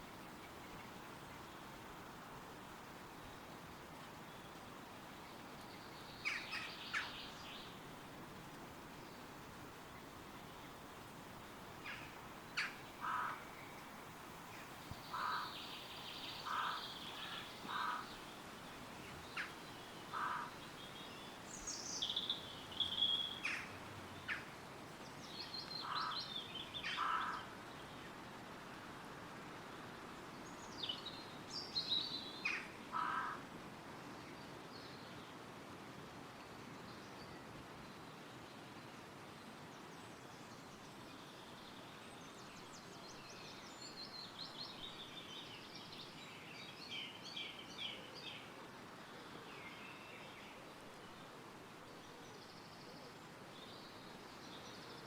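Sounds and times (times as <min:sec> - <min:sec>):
wind through trees: 0:00.0 - 0:55.0.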